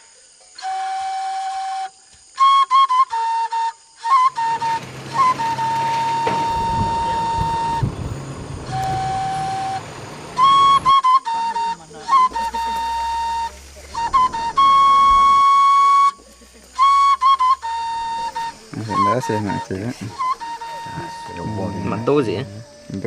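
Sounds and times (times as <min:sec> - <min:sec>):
flute playing slow melody: 0:00.0 - 0:23.0.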